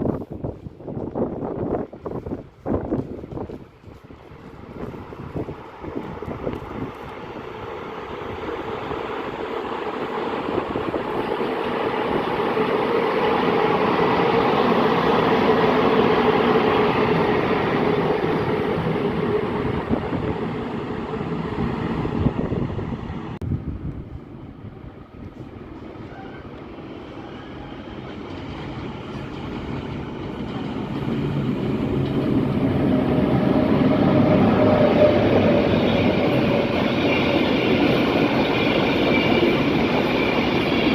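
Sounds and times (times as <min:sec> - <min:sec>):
trains running past: 0:00.0 - 0:40.9.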